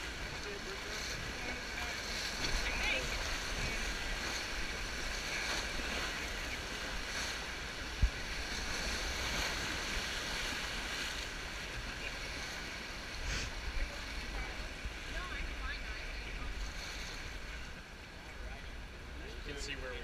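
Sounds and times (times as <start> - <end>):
whitewater rapids rushing: 0.0 - 17.6.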